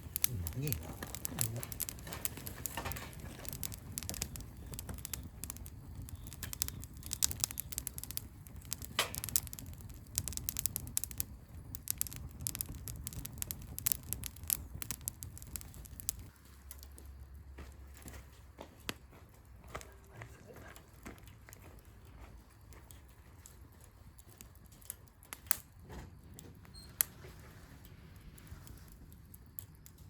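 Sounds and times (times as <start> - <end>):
bonfire crackling: 0.0 - 30.0.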